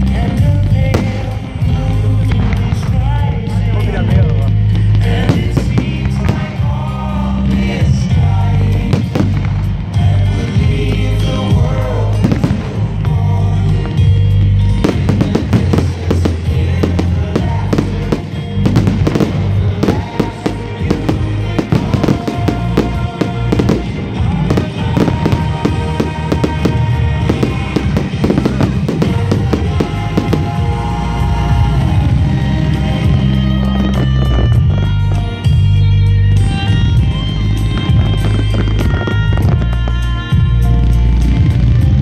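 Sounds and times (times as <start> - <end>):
fireworks bursting and crackling: 0.0 - 35.8, 36.6 - 42.0
loud music: 0.0 - 42.0.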